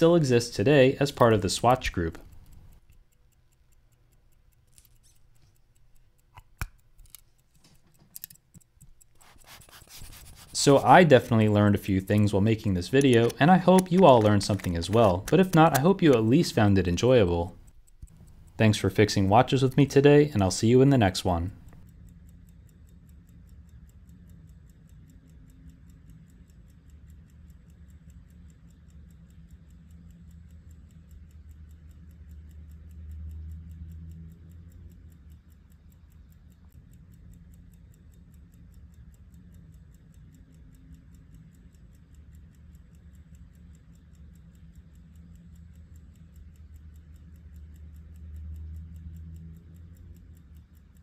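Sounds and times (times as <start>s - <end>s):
pocket watch ticking rapidly: 0.0s - 51.0s
low hum: 9.2s - 51.0s.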